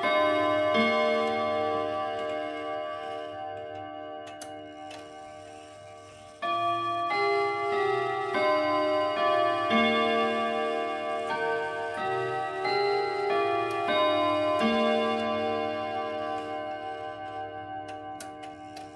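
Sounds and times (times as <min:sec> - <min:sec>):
clock chime melody: 0:00.0 - 0:18.9.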